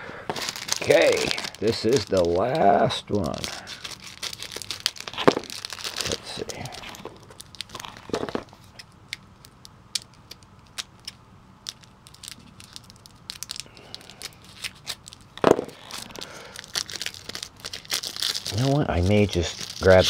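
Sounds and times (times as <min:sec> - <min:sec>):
plastic wrapper crinkling: 0:00.3 - 0:20.0.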